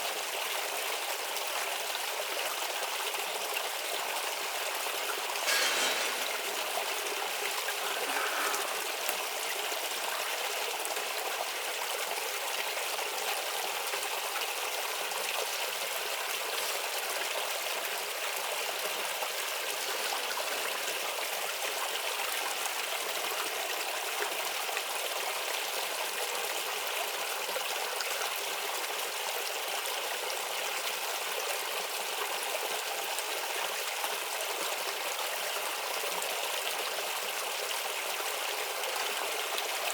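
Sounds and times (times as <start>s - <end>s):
stream babbling and trickling: 0.0s - 39.9s.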